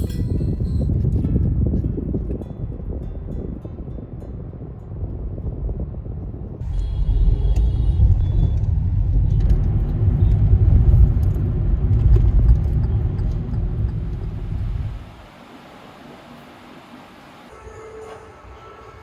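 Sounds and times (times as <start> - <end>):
moving vehicle rumble: 0.0 - 19.0.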